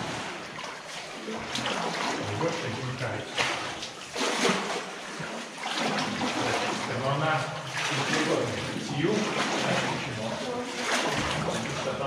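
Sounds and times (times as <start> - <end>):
oars splashing in water: 0.0 - 12.0
water lapping and dripping: 0.0 - 12.0.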